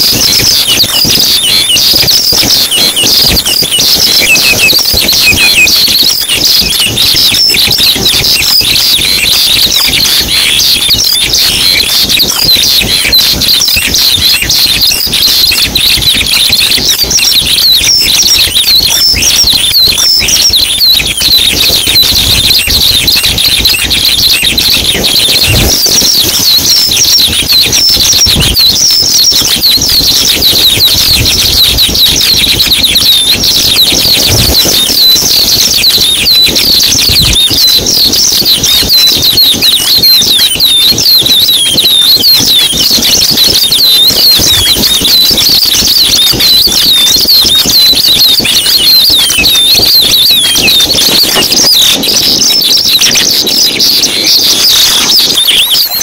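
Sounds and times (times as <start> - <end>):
small birds chirping chorus: 0.0 - 56.0.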